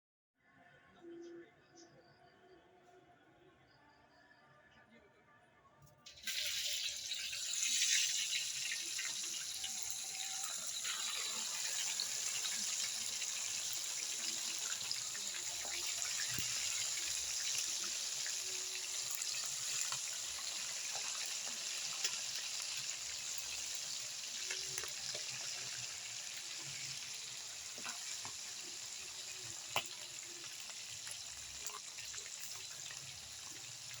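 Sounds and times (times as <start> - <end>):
fish frying in hot oil: 6.1 - 34.0.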